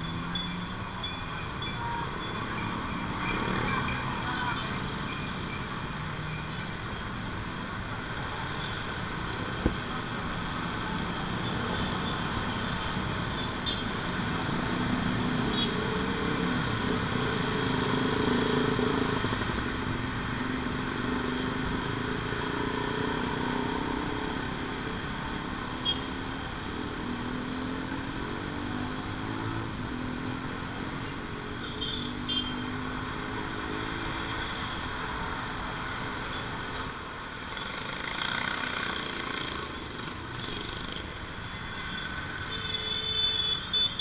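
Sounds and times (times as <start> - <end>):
wind and road noise: 0.0 - 44.0.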